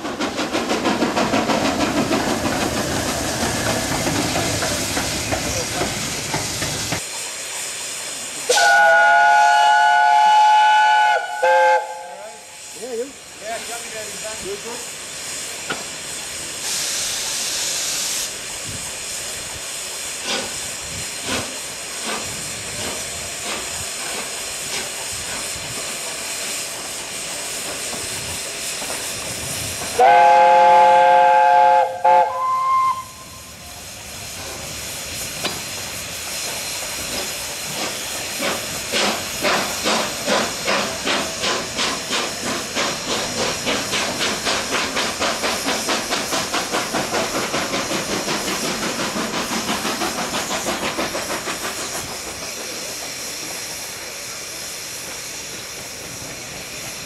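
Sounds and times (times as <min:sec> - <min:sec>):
steam locomotives hissing: 0:00.0 - 0:57.0.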